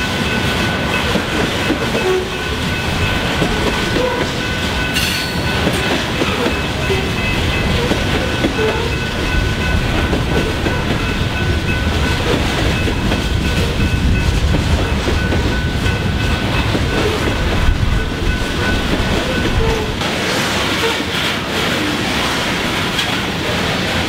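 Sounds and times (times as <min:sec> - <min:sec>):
crossing bell ringing: 0:00.0 - 0:20.0
train wheels rumbling on rail: 0:00.0 - 0:24.0.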